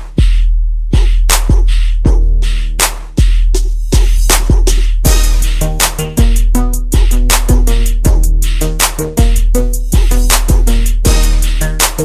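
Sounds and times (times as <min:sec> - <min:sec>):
hip-hop music with heavy bass: 0:00.0 - 0:12.0.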